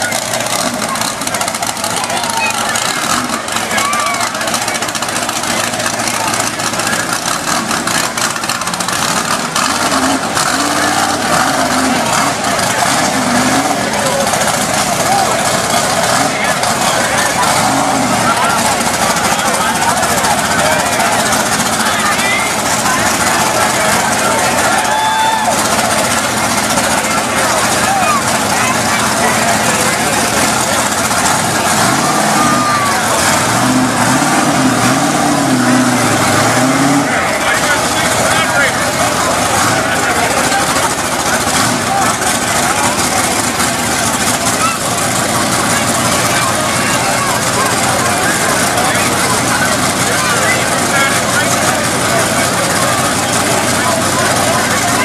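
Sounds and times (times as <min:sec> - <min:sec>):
crowd noise: 0:00.0 - 0:55.0
truck engine revving: 0:00.0 - 0:55.0.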